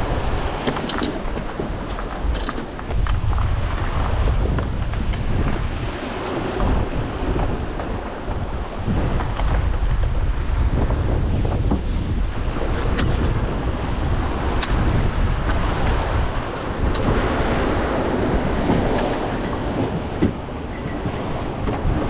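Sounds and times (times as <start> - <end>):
water rushing past hull: 0.0 - 22.0
wind buffeting microphone: 0.0 - 22.0.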